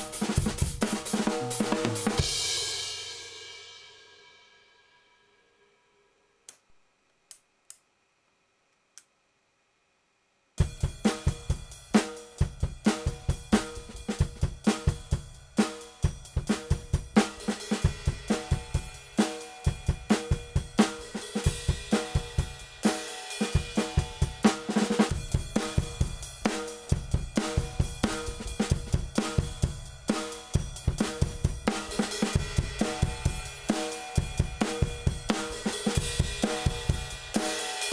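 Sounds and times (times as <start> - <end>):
drum kit groove: 0.0 - 4.2, 10.6 - 37.9.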